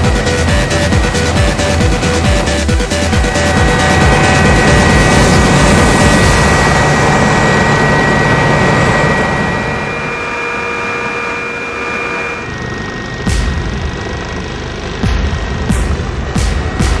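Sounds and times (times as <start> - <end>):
helicopter running: 0.0 - 17.0.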